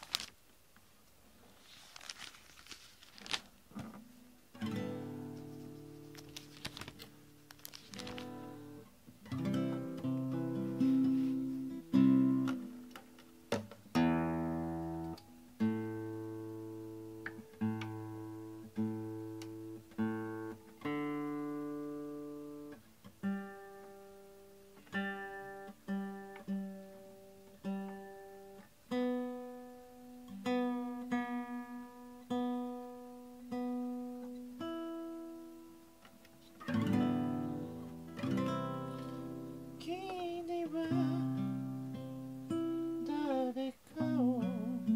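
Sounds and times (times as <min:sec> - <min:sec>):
acoustic guitar plucked slowly: 0:03.7 - 0:44.9.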